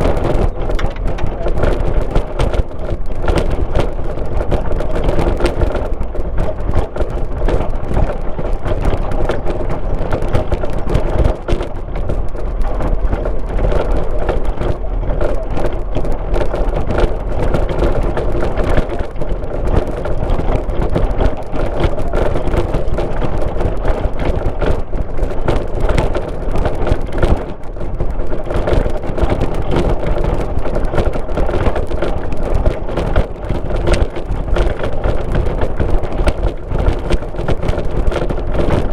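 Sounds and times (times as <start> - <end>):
car engine and tyre noise: 0.0 - 38.9
small knocks and rattles: 0.0 - 38.9.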